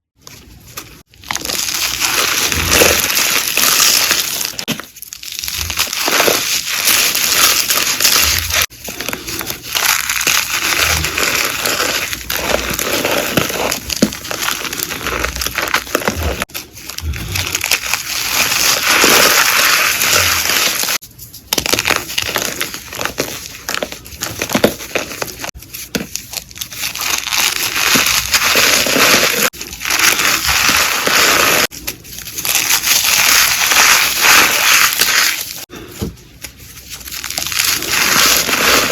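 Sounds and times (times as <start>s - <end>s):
chalk being crushed by hand: 0.6s - 35.7s, 36.4s - 38.9s.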